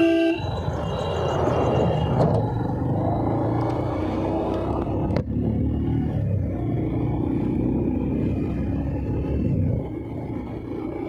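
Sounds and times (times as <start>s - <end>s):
road and traffic noise: 0.0s - 11.0s.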